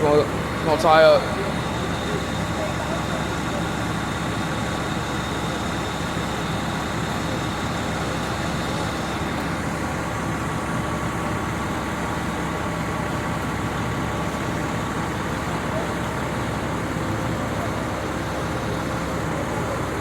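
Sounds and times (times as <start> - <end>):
diesel engines rumbling: 0.0 - 20.0
faint steady whine: 0.0 - 20.0.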